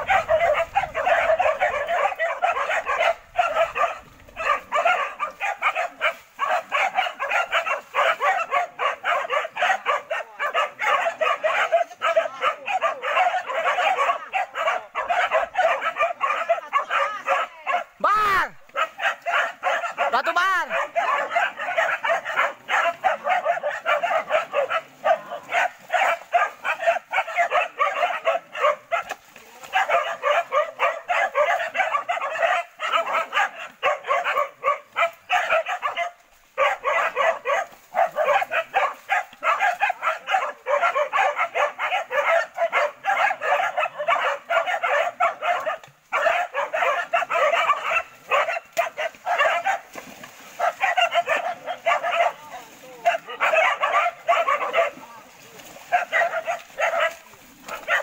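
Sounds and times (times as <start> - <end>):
dogs barking: 0.0 - 58.0.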